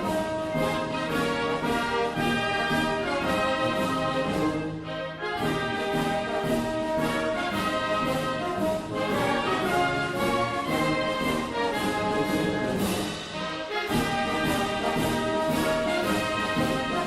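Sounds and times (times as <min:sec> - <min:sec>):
orchestral music led by brass: 0:00.0 - 0:17.0.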